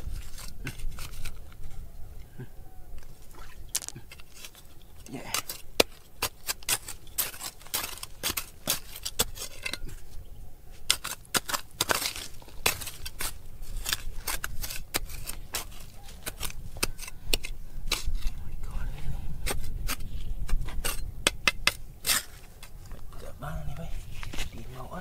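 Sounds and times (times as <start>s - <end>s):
digging tool scraping stony soil: 0.0s - 1.8s, 3.2s - 25.0s.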